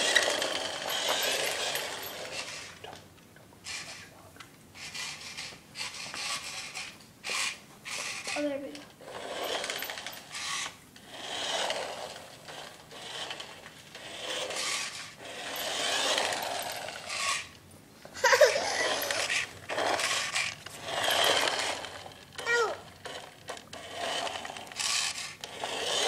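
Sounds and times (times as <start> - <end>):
plastic wheels scraping on wood floor: 0.0 - 3.0, 4.8 - 17.6, 18.2 - 26.0
toy car motor whirring: 0.0 - 3.0, 3.6 - 4.2, 4.8 - 17.6, 18.2 - 26.0.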